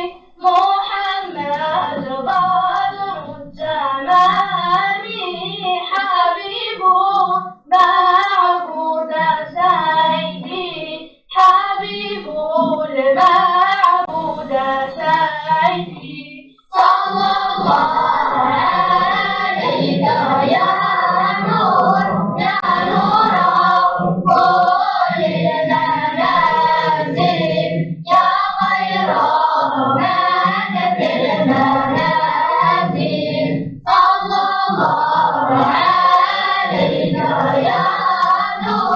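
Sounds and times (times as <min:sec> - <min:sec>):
children singing together: 0:00.0 - 0:38.9.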